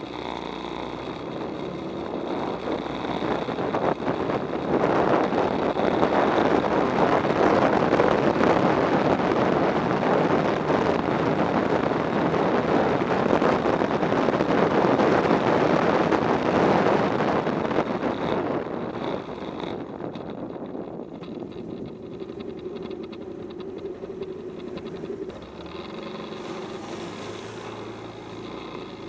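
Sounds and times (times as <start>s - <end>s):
motorcycle running: 0.0s - 29.0s
wind noise on microphone: 0.0s - 29.0s.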